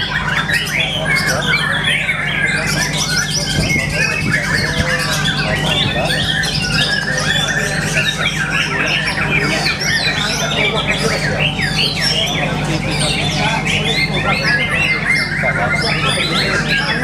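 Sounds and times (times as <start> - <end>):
bird singing chirps and whistles: 0.0 - 17.0
other birdsong: 0.0 - 17.0.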